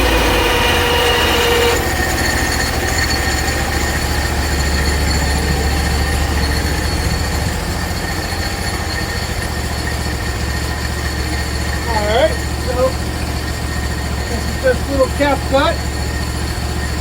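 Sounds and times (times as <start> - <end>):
band blade whining through wood: 0.0 - 17.0
sawmill engine running under load: 0.0 - 17.0.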